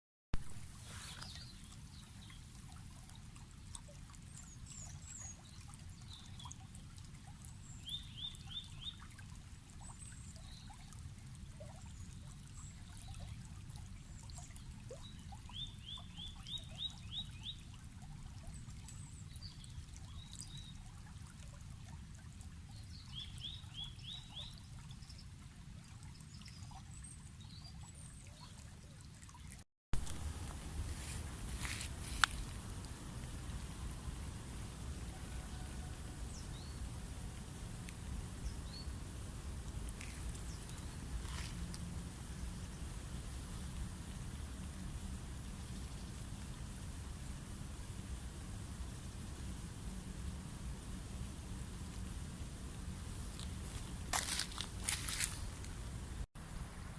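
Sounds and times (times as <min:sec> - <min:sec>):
river water flowing: 0:00.4 - 0:56.9.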